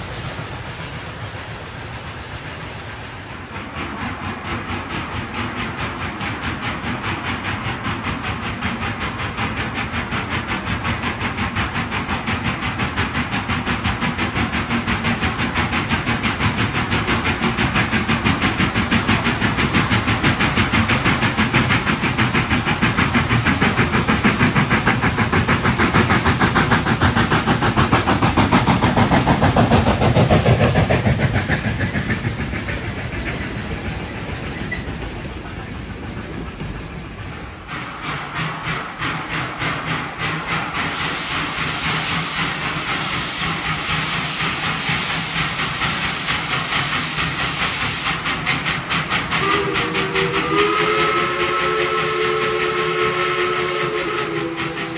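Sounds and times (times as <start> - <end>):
steam locomotive chuffing: 0.0 - 54.9.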